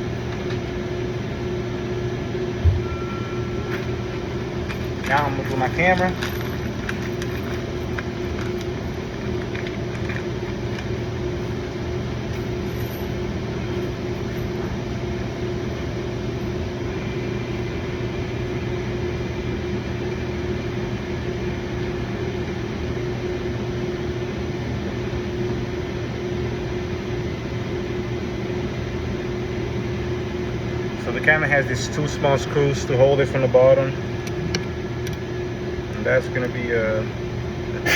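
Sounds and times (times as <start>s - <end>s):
mechanical hum with drone: 0.0s - 37.9s.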